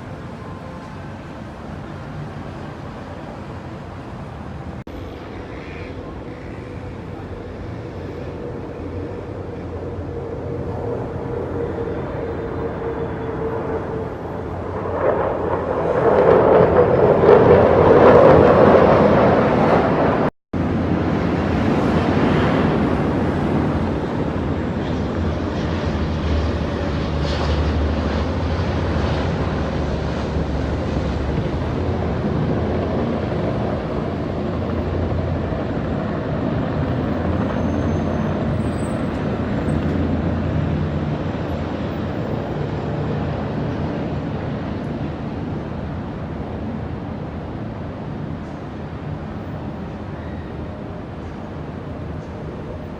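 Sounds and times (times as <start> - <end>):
aircraft flying past: 0.0 - 50.4.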